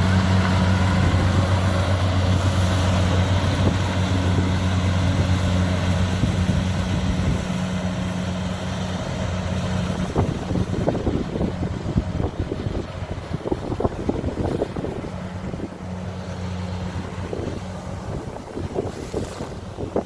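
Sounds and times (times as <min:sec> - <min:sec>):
harvesting machine engine humming: 0:00.0 - 0:20.0.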